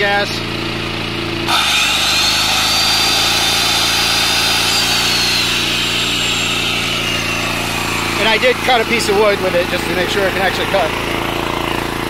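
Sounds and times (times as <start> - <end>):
generator running: 0.0 - 12.0
circular saw whining: 1.5 - 12.0.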